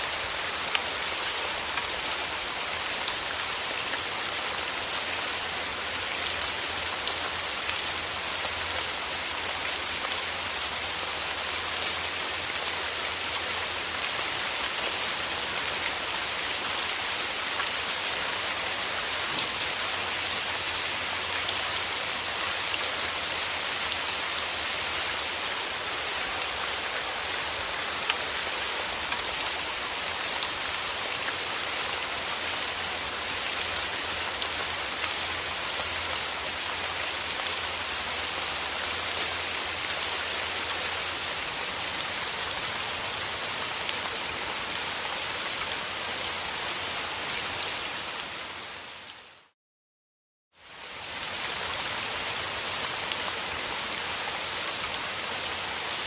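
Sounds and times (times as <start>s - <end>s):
steady rain falling: 0.0s - 49.6s, 50.6s - 56.0s.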